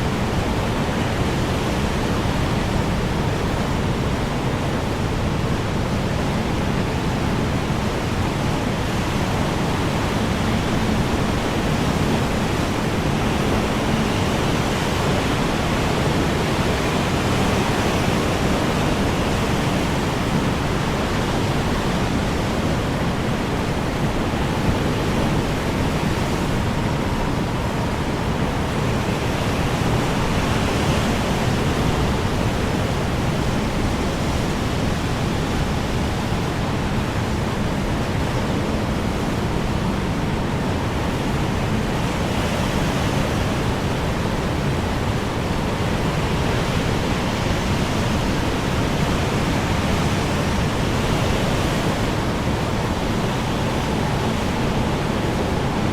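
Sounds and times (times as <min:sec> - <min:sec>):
strong wind blowing: 0:00.0 - 0:55.9.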